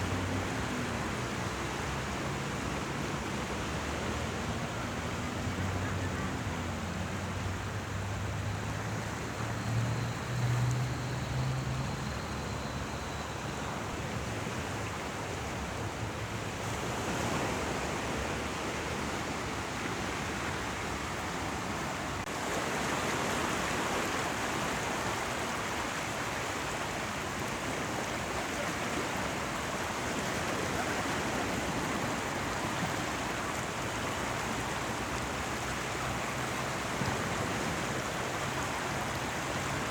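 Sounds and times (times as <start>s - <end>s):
running water rushing: 0.0s - 39.9s
sea waves washing in: 0.0s - 39.9s.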